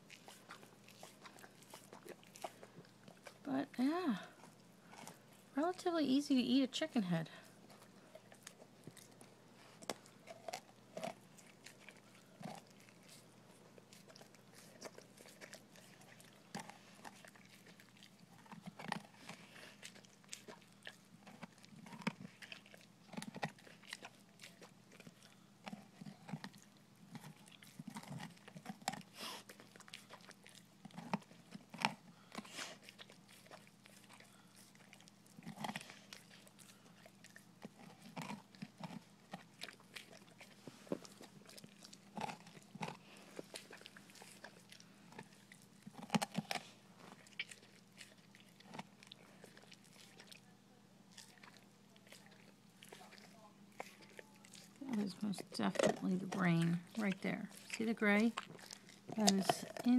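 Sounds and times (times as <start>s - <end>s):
dog crunching bones: 0.0s - 59.9s.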